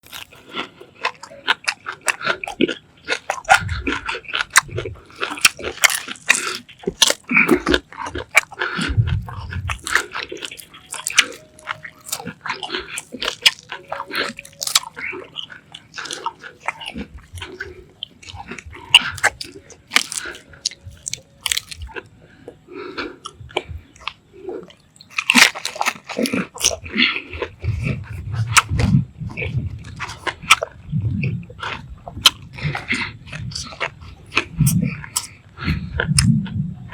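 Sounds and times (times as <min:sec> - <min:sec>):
chewing crunchy food: 0:00.0 - 0:36.9.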